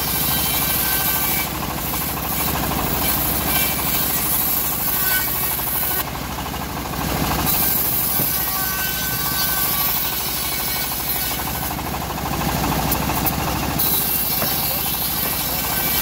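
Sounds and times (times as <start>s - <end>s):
band sawmill sawing log: 0.0s - 16.0s.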